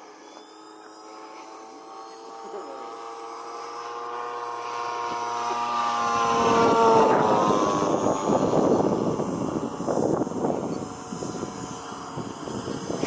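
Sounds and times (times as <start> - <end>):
model airplane engine passing: 0.0 - 13.0.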